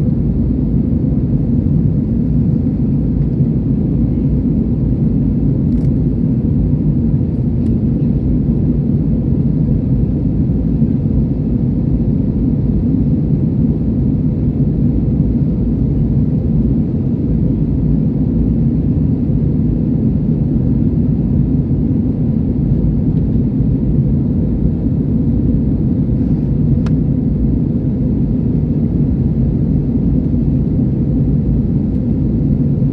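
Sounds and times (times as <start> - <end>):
airliner cabin rumble: 0.0 - 32.9.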